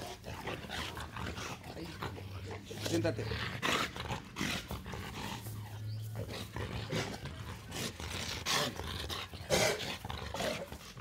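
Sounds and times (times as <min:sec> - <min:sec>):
large dogs growling: 0:00.0 - 0:11.0.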